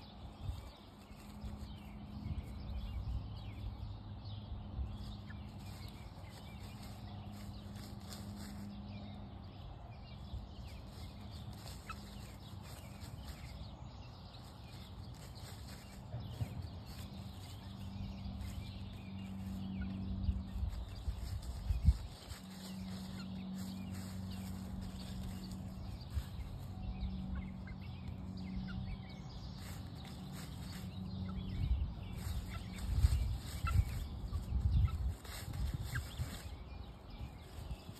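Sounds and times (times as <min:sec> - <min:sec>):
hens clucking and peeping: 0:00.0 - 0:37.9
rustles in dry leaves: 0:00.0 - 0:37.9.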